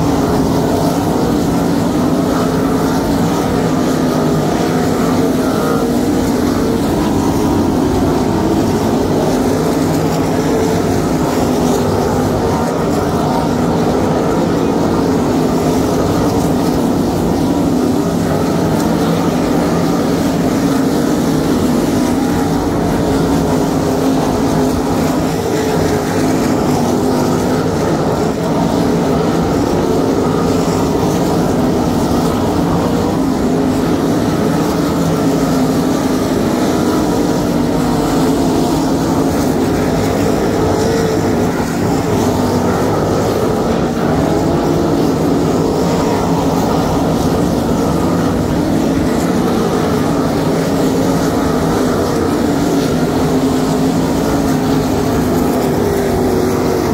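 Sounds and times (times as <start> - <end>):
race car engines droning: 0.0 - 56.9.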